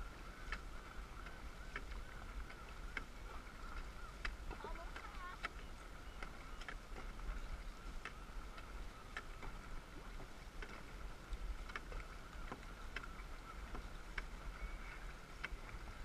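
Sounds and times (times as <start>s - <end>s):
paddle strokes knocking: 0.0s - 16.0s
water and wind rushing: 0.0s - 16.0s.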